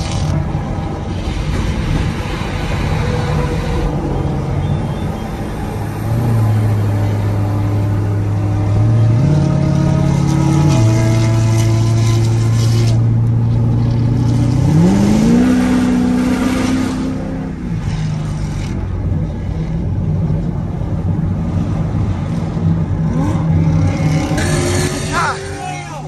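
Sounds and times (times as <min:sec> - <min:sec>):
car engine revving: 0:00.0 - 0:26.0
road noise: 0:00.0 - 0:26.0.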